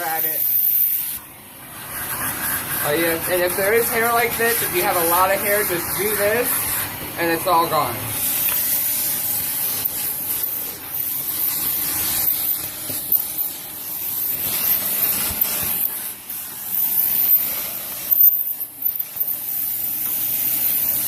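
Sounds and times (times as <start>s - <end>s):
vacuum cleaner suction rushing: 0.0s - 21.0s.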